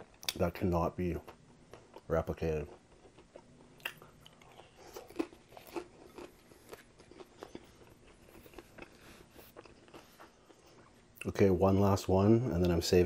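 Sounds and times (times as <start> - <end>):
chewing crispy fried food: 0.0 - 11.5.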